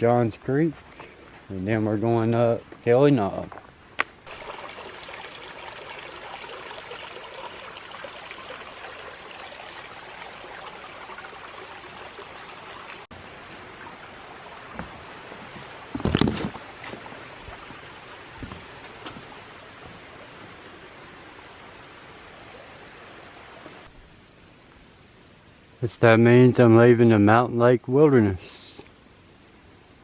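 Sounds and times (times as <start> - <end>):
small stream flowing: 0.0 - 26.9.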